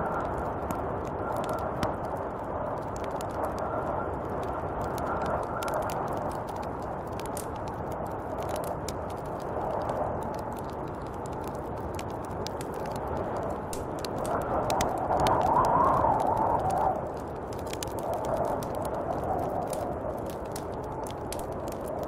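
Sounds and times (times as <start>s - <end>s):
light crackles and ticks: 0.0s - 22.0s
snowstorm wind blowing: 0.0s - 22.0s.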